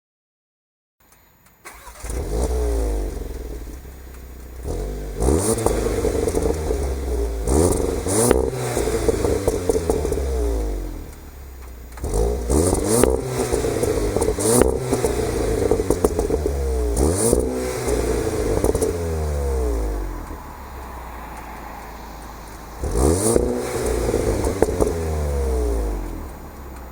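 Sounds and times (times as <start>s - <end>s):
exhaust cracks: 1.1s - 26.9s
car engine starting and revving: 1.6s - 26.9s.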